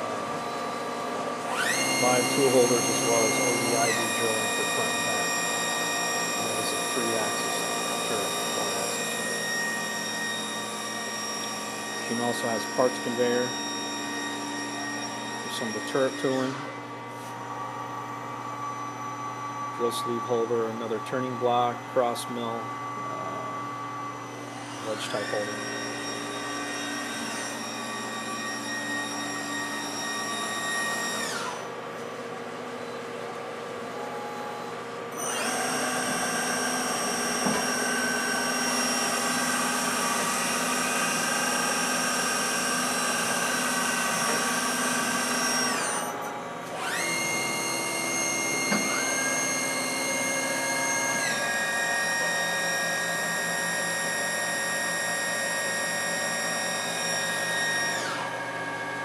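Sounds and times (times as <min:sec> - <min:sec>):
lathe machine whine: 0:00.0 - 0:59.0.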